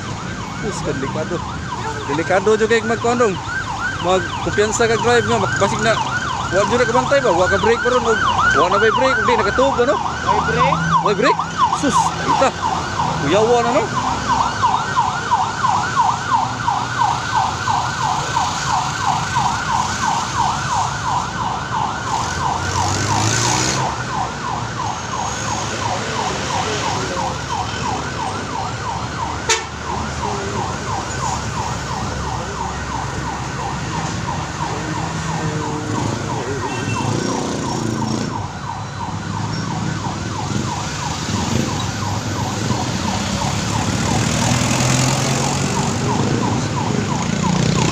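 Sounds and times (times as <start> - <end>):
emergency siren yelping: 0.0 - 47.9
road traffic noise: 0.0 - 47.9.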